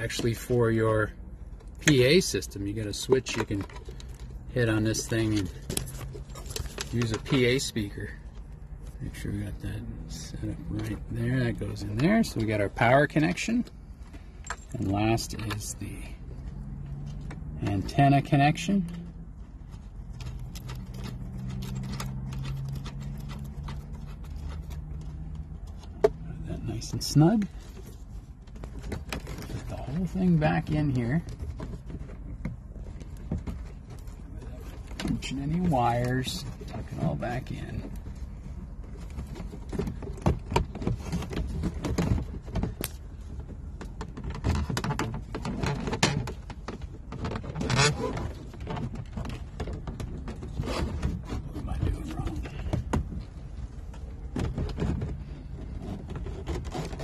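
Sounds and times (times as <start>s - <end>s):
small knocks clicks and scrapes: 0.0s - 9.7s, 10.3s - 57.0s.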